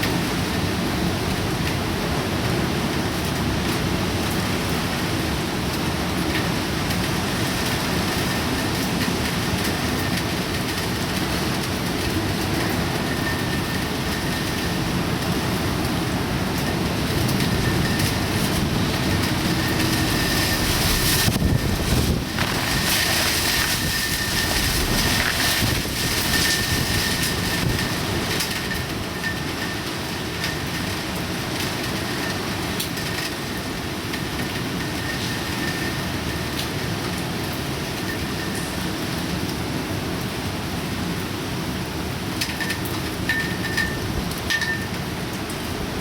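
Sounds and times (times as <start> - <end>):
wind and rain rushing: 0.0 - 46.0.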